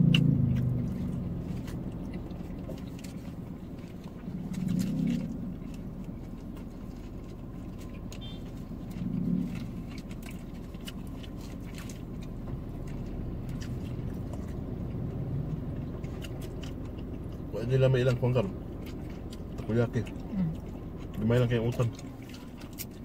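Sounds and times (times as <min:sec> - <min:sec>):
low hum inside car: 0:00.0 - 0:23.0
low murmur: 0:00.0 - 0:23.0
people chewing and eating: 0:00.0 - 0:23.0.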